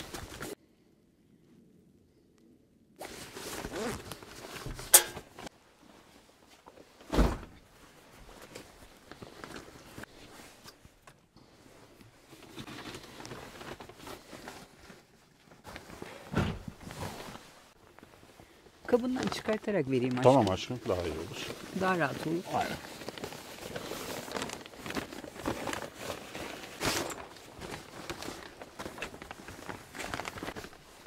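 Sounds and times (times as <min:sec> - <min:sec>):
rustling and shuffling: 0:00.0 - 0:00.6, 0:03.0 - 0:31.0.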